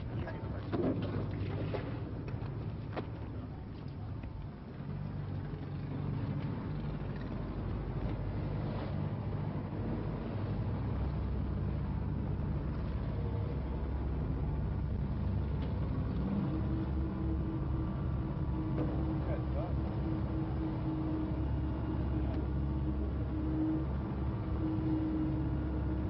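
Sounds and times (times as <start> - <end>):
boat engine running: 0.0 - 26.0
rough sea: 0.0 - 26.0
wind: 0.0 - 26.0.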